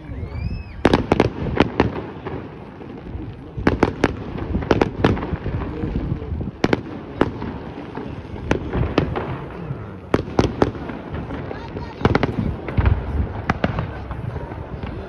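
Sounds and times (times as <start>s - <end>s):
fireworks bangs and cracks: 0.0s - 15.0s
low rumble of echoing blasts: 0.0s - 15.0s.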